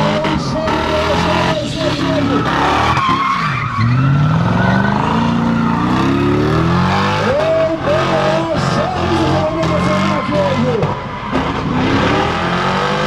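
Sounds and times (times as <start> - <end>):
car engine revving: 0.0 - 13.0
tyre squeal: 0.3 - 12.3.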